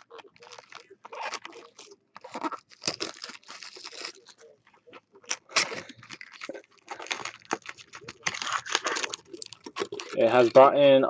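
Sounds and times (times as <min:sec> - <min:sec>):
foil card packs crinkling: 0:00.0 - 0:10.8.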